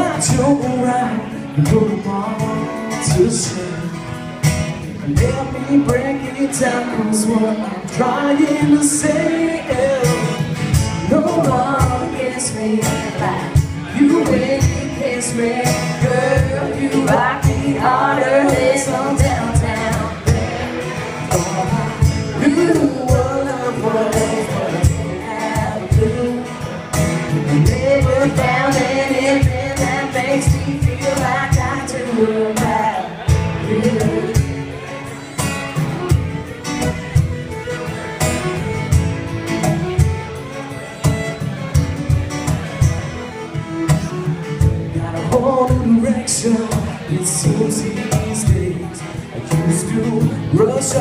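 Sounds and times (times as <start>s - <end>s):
cajon beat: 0.0s - 51.0s
strummed acoustic guitar: 0.0s - 51.0s
fiddle melody: 5.4s - 51.0s.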